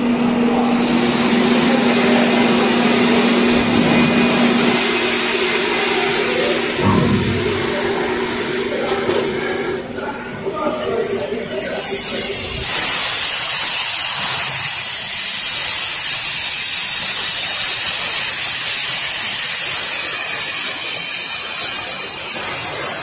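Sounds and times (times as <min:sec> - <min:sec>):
plasma cutting torch hissing: 0:00.5 - 0:09.8, 0:11.6 - 0:23.0.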